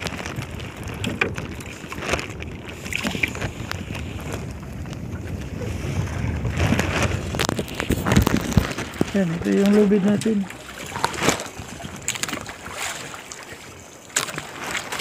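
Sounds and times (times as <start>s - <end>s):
water around boat: 0.0s - 15.0s
wind on microphone: 0.0s - 15.0s.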